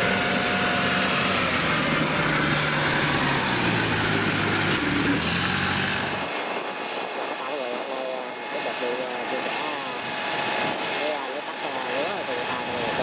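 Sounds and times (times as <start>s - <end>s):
tracked carrier engine running: 0.0s - 13.0s.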